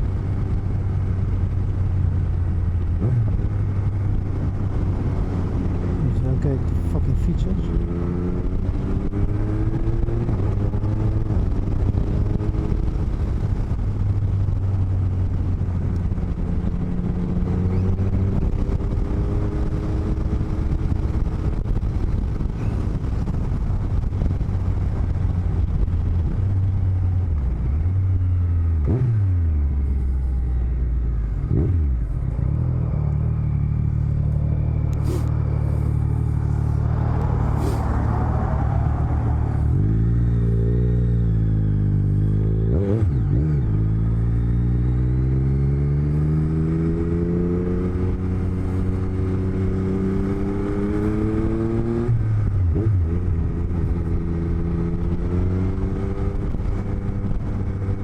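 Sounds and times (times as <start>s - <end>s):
wind noise: 0.0s - 33.2s, 33.9s - 58.0s
motorcycle engine: 0.0s - 58.0s.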